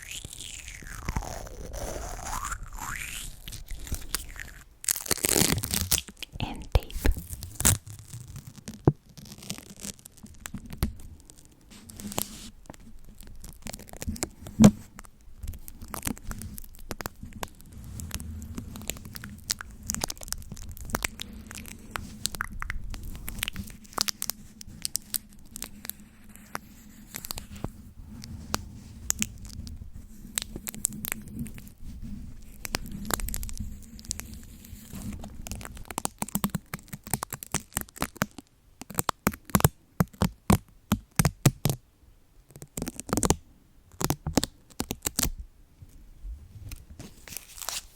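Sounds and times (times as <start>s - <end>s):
sharp clicks and scratchy crackles: 0.0s - 31.8s, 32.4s - 41.8s.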